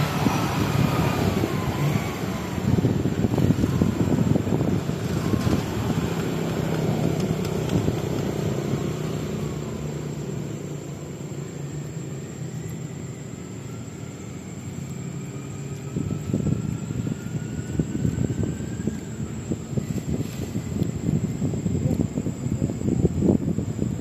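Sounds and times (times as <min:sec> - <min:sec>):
low engine-like rumble: 0:00.0 - 0:24.0.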